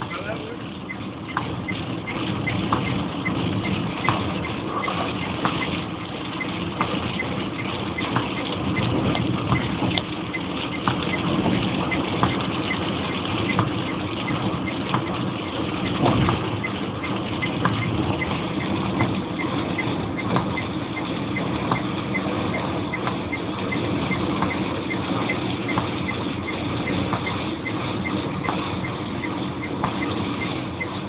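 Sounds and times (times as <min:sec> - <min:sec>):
car engine and road noise: 0:00.0 - 0:31.0
light ticking: 0:00.0 - 0:31.0
rain patter: 0:00.0 - 0:31.0.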